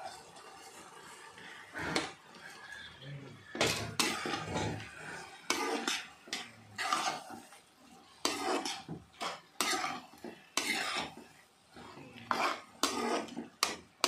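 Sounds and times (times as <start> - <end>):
metal spatula scraping a pan: 0.0 - 14.0.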